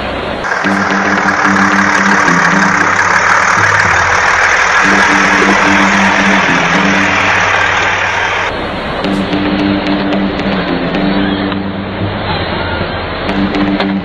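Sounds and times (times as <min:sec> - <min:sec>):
heavy machine engine droning: 0:00.0 - 0:14.0.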